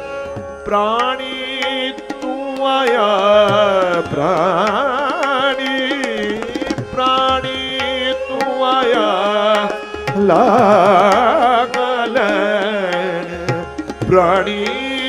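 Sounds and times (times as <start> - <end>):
sustained accompanying notes: 0.0 - 15.0
tabla: 0.0 - 15.0
devotional singing: 0.7 - 15.0.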